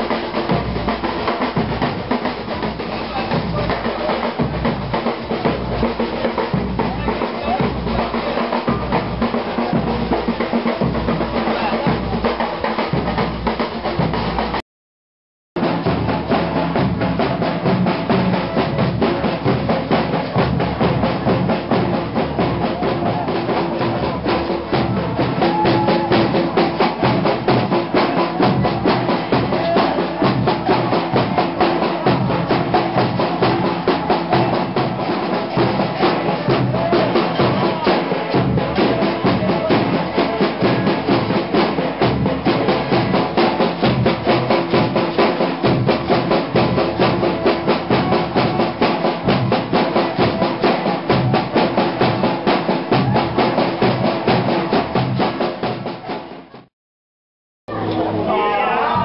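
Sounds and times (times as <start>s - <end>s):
snare drum fast rhythm: 0.0s - 14.6s, 15.6s - 56.7s.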